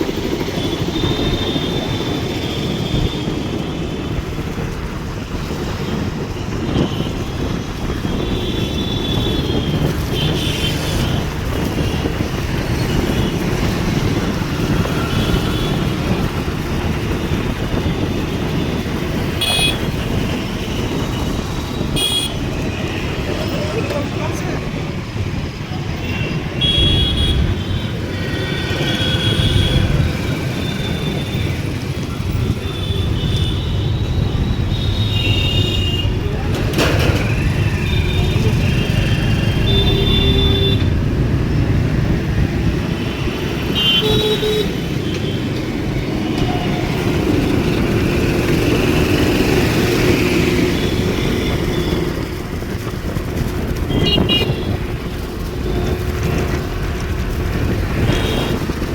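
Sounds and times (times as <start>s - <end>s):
passing vehicles rumbling: 0.0s - 58.9s.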